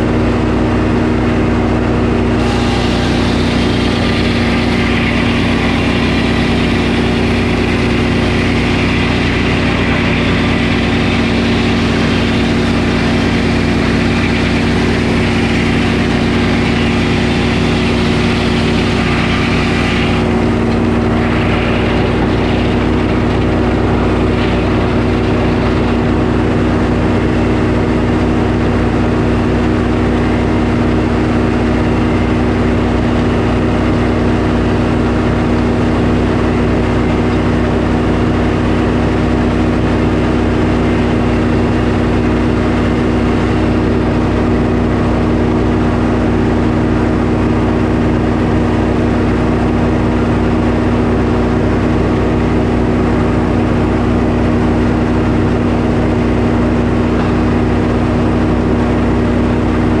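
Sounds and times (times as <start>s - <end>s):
sawmill engine running: 0.0s - 60.0s.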